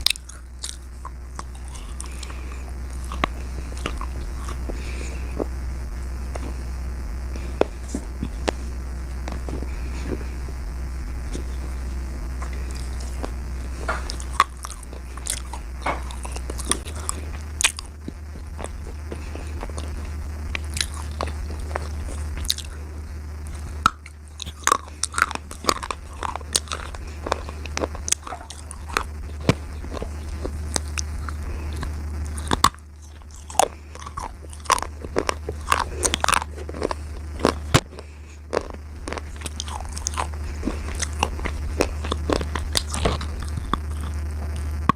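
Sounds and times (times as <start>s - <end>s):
slate crunching being chewed: 0.0s - 44.9s
steady low hum: 0.0s - 44.9s.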